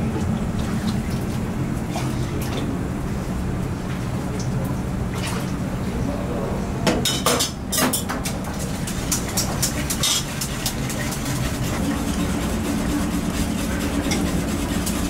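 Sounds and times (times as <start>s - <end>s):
burners and ventilation rumble: 0.0s - 15.0s.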